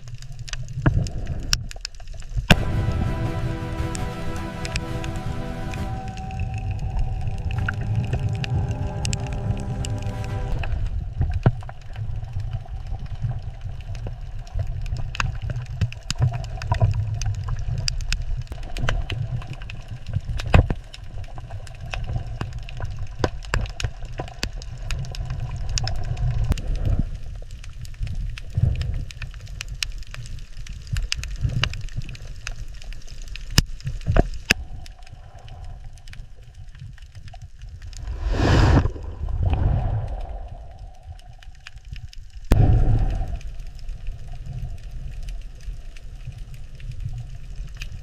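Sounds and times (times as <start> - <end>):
moving water rumble: 0.0 - 48.0.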